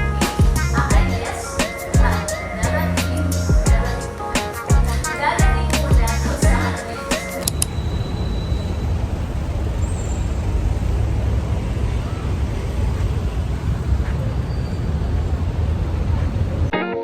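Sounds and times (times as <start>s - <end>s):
road traffic rumble: 0.0s - 16.7s.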